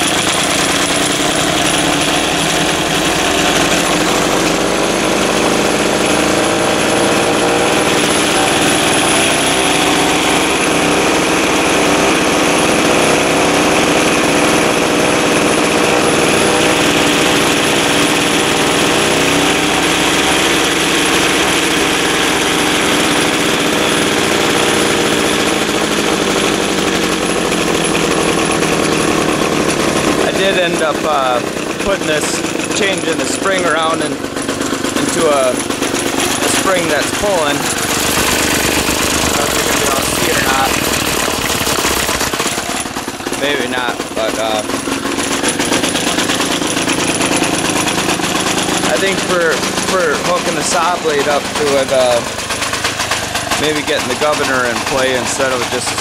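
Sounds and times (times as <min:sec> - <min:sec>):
gas engine running: 0:00.0 - 0:56.0
grinding wheel spinning: 0:00.0 - 0:56.0.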